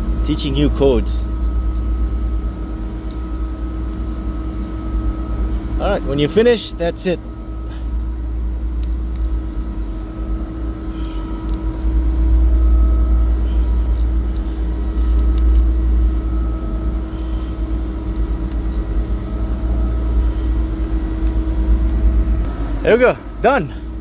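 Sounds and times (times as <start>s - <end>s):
machinery droning: 0.0s - 24.0s.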